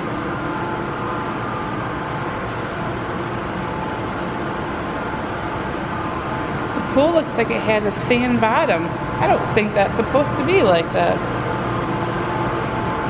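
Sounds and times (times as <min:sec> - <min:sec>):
faint machinery hum: 0:00.0 - 0:13.0.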